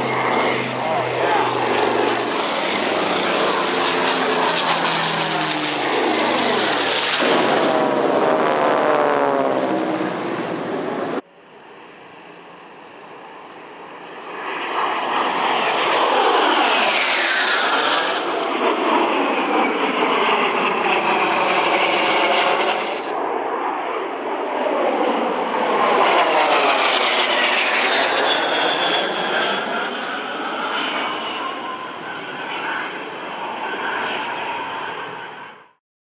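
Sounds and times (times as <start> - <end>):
jet engines whining by: 0.0 - 35.8.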